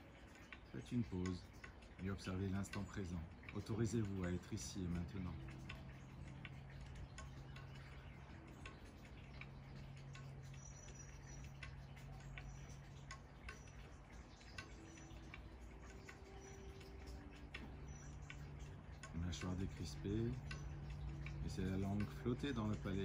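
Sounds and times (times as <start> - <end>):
faint ticking clicks: 0.0 - 23.0
low steady hum: 0.0 - 23.0.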